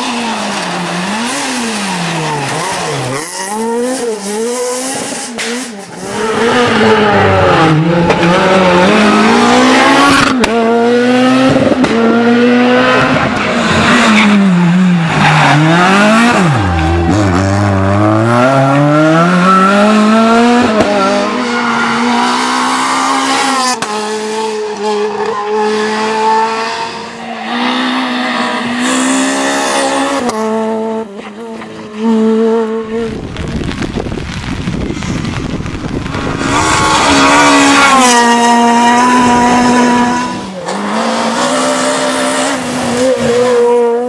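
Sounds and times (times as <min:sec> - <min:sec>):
rally car engines revving: 0:00.0 - 0:44.0.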